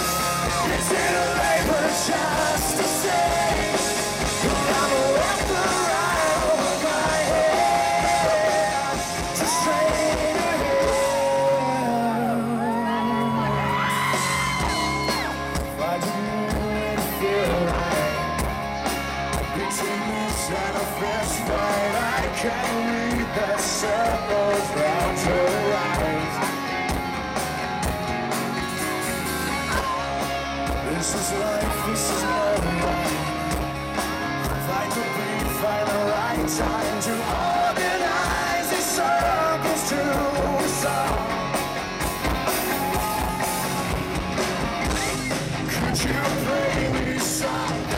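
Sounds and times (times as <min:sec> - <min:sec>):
drum kit: 0:00.0 - 0:12.9, 0:13.7 - 0:47.9
man singing lead vocal: 0:00.0 - 0:26.9, 0:29.7 - 0:41.8, 0:44.9 - 0:47.9
distorted electric guitars: 0:00.0 - 0:47.9.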